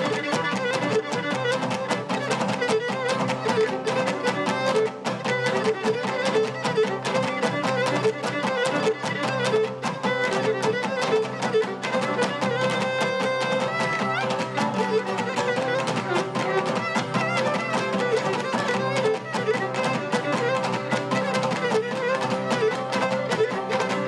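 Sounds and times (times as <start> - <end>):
bowed lyra playing dance tune: 0.0 - 24.0
strummed lute: 0.0 - 24.0.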